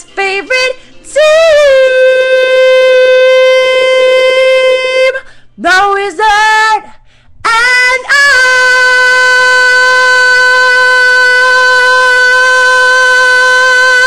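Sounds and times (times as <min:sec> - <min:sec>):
person singing unaccompanied: 0:00.0 - 0:14.0.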